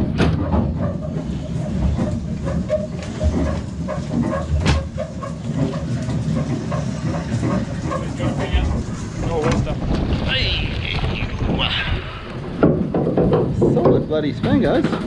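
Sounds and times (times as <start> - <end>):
boat motor rumble: 0.0 - 15.0.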